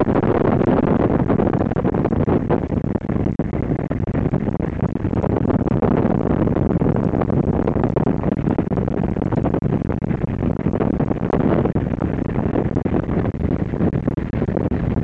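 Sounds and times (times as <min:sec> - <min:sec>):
rushing airflow buffeting microphone: 0:00.0 - 0:15.0.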